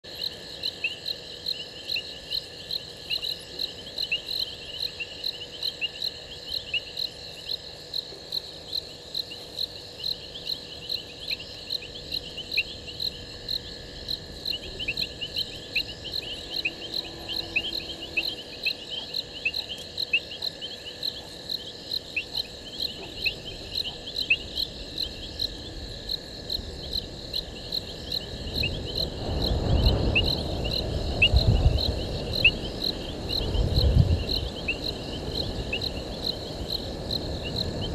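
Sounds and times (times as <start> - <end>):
crickets chirping: 0.0 - 37.9
high insect trill: 0.0 - 37.9.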